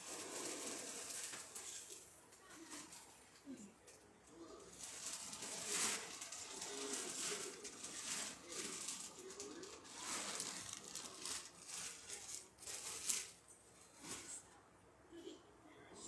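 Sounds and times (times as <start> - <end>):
crinkly material rustling: 0.0 - 3.5, 4.3 - 14.5
faint voice: 1.6 - 12.6, 14.0 - 16.0.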